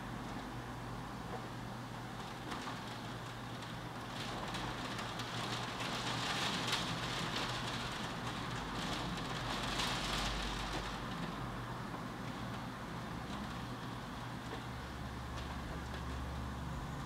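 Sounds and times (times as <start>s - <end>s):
heavy rain falling: 2.1s - 16.6s.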